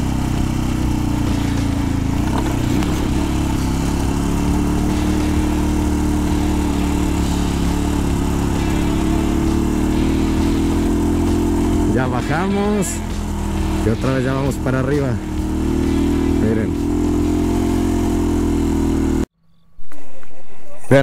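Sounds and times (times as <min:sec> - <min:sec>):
motorcycle engine running: 0:00.0 - 0:19.3
wind and road noise: 0:00.0 - 0:21.0.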